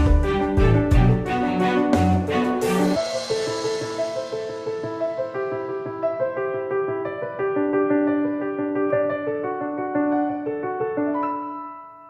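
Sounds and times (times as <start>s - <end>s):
soft piano melody: 0.0s - 12.0s.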